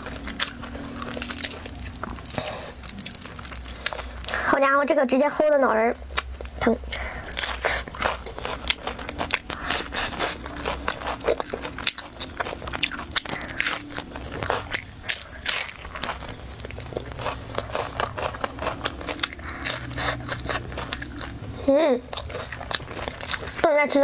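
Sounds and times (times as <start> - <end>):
crunchy pastry chewing: 0.0 - 4.6, 6.0 - 24.0.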